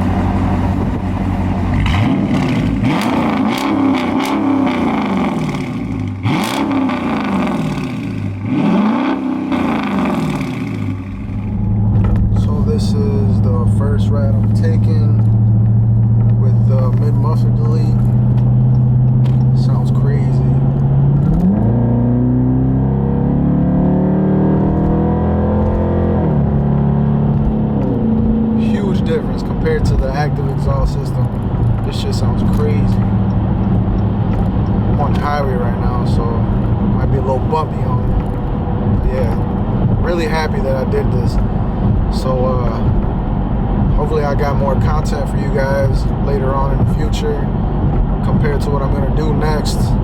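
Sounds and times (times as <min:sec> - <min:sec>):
car exhaust revving: 0:00.0 - 0:50.0.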